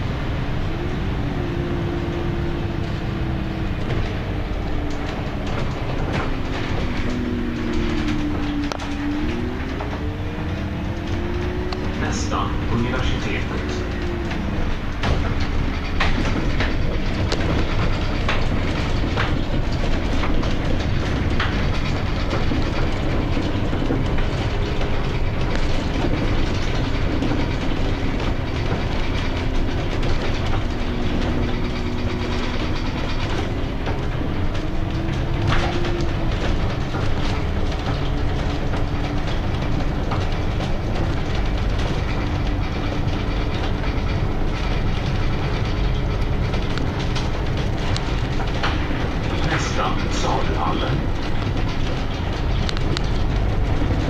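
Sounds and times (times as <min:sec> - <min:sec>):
bus engine and road rumble: 0:00.0 - 0:54.0
cabin clicks and rattles: 0:00.6 - 0:54.0.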